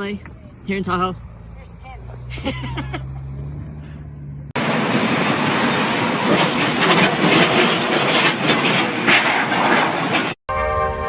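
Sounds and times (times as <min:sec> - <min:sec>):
heavy vehicle rumbling: 0:00.0 - 0:10.4.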